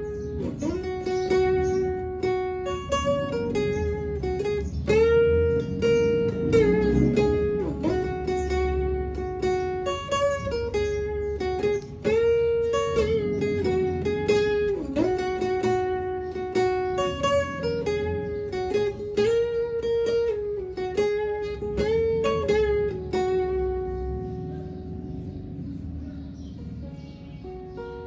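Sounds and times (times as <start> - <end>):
fingerpicked acoustic guitar: 0.0 - 28.0.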